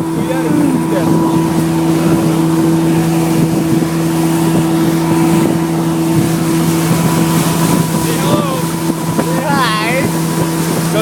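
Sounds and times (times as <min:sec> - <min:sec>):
motorboat engine droning: 0:00.0 - 0:11.0
water rushing past boat: 0:00.0 - 0:11.0.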